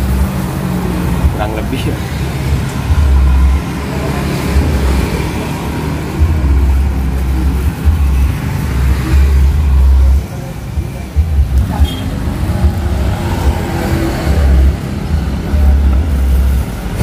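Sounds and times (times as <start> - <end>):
road traffic passing close by: 0.0 - 17.0.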